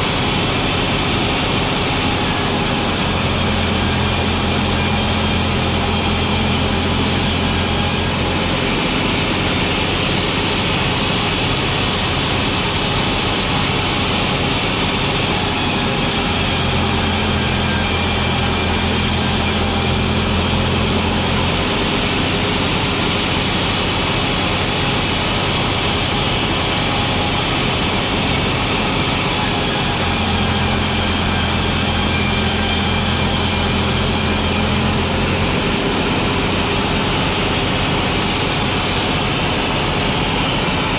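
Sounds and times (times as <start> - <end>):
sawmill machinery sawing boards: 0.0 - 40.9.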